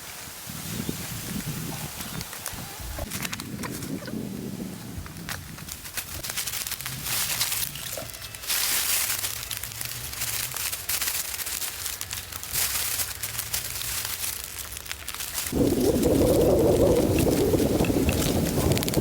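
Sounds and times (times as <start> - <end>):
rustling and crackling: 0.8 - 19.0.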